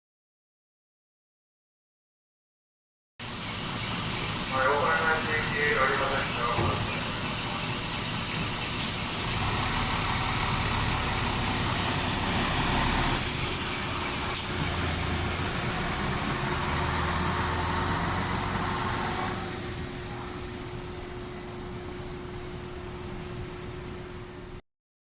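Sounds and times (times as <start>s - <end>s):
vehicle running: 3.2s - 24.6s.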